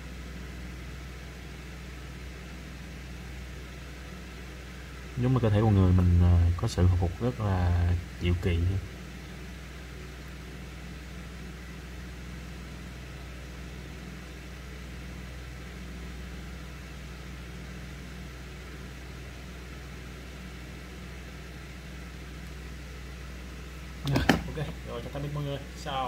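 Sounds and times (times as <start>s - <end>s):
low mechanical hum with hiss: 0.0s - 26.0s.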